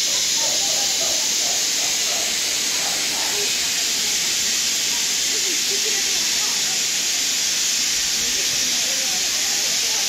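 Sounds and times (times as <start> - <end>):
distant murmuring voices: 0.0 - 10.0
steady hiss: 0.0 - 10.0.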